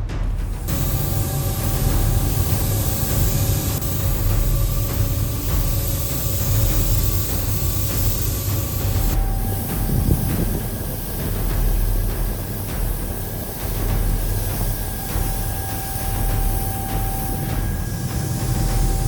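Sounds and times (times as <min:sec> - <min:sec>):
low motor hum: 0:00.1 - 0:19.0
machine motor hissing: 0:00.6 - 0:19.0.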